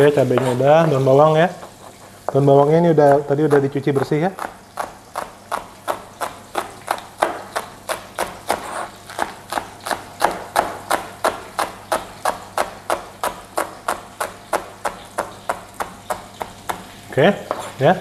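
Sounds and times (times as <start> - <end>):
knife chopping on plastic board: 0.0 - 17.8.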